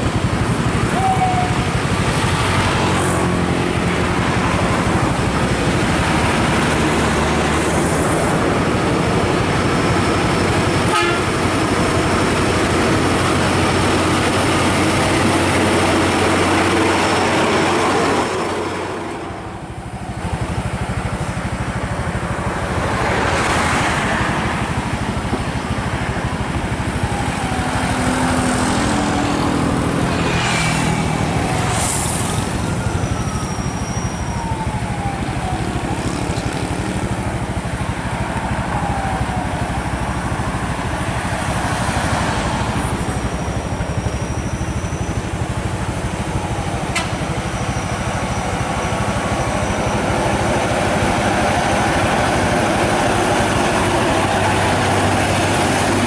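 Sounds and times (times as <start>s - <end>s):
diesel truck engine humming: 0.0s - 56.0s
road traffic passing: 0.0s - 56.0s.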